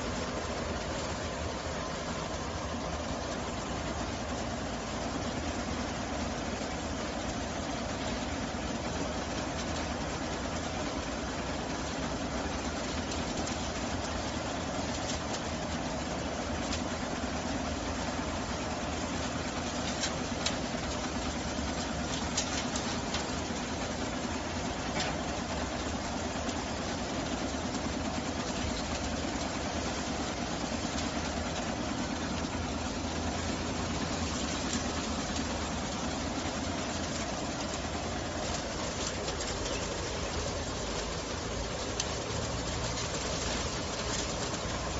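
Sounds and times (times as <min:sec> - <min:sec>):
rotating brushes scrubbing road: 0:00.0 - 0:44.9
street sweeper running: 0:00.0 - 0:44.9.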